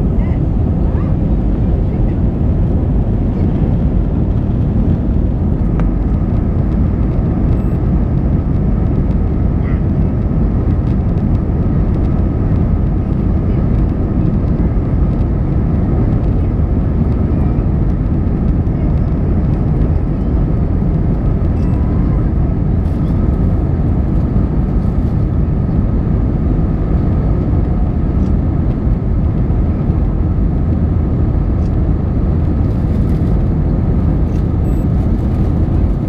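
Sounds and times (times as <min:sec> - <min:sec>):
airliner engines rumbling: 0:00.0 - 0:36.0
faint constant whine: 0:00.0 - 0:36.0.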